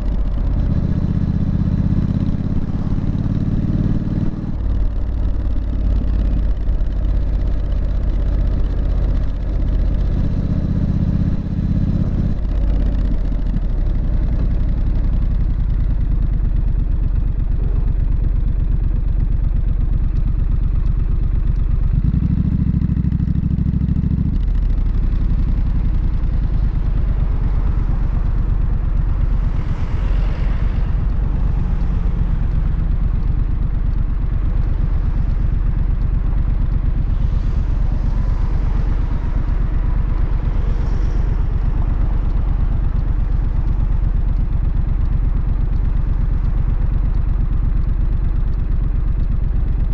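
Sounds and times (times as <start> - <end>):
motorcycle engine burbling: 0.0 - 49.9.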